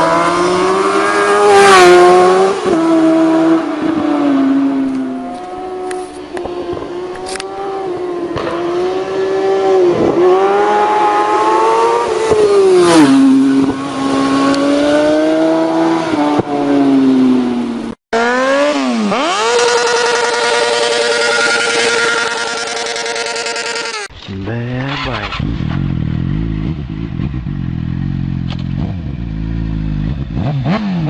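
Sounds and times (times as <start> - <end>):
engine at high revs: 0.0 - 17.6, 18.2 - 24.1, 25.0 - 31.0
motorcycle engine accelerating: 0.0 - 31.0.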